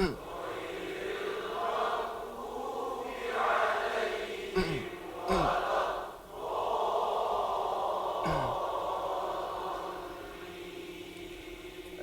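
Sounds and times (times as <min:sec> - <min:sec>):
voices reciting in unison: 0:00.0 - 0:12.0.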